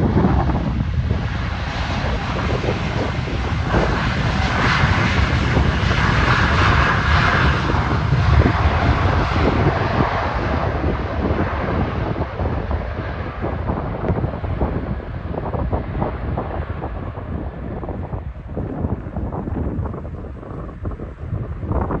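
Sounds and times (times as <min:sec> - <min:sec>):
jet engines at takeoff thrust: 0:00.0 - 0:22.0.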